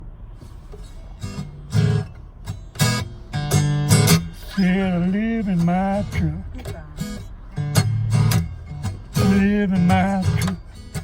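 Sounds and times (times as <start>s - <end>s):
acoustic guitar strumming: 0.5s - 11.0s.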